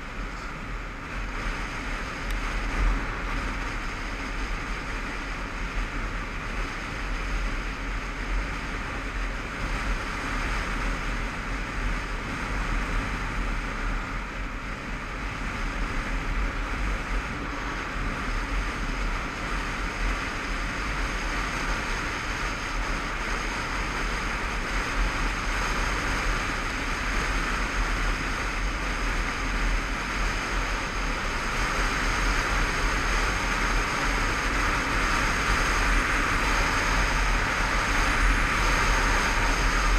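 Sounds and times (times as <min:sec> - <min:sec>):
motorcycle engine running: 0:00.0 - 0:39.9
wind rushing on microphone: 0:00.0 - 0:39.9.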